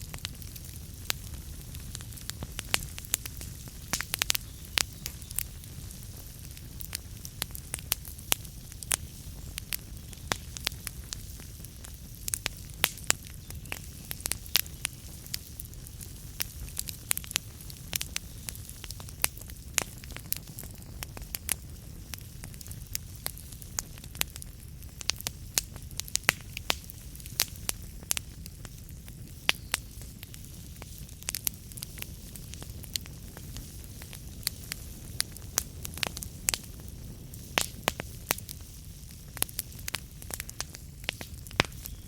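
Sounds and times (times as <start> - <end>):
logs crackling and popping: 0.0 - 42.0
low rush of flames: 0.0 - 42.0.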